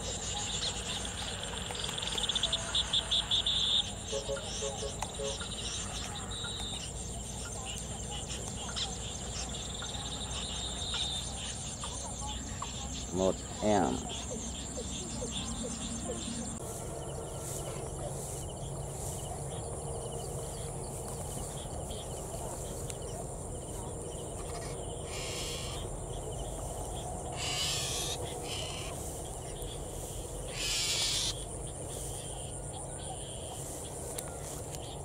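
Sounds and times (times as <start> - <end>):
grass rustling underfoot: 0.0 - 35.0
high insect trill: 0.0 - 35.0
insects chirping: 0.0 - 35.0.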